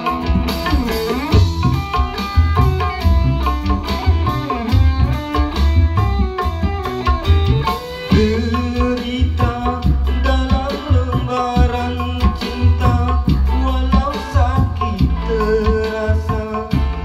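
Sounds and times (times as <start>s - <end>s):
bass line: 0.0s - 17.0s
electric guitar with sliding notes: 0.0s - 17.0s
hand drum beat: 0.0s - 17.0s.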